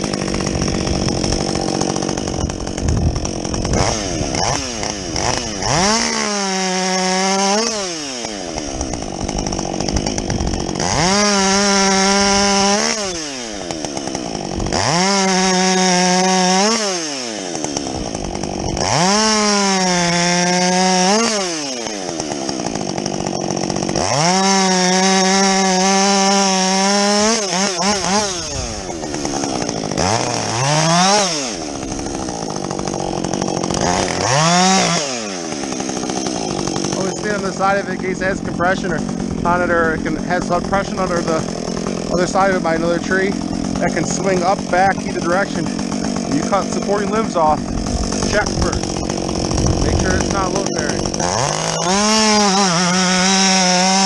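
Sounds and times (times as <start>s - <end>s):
chainsaw revving while cutting: 0.0s - 54.0s.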